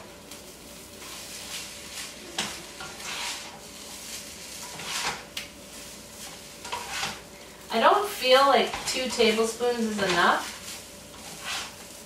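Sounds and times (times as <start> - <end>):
light sizzle: 0.0 - 12.0
utensil scraping frying pan: 0.9 - 12.0.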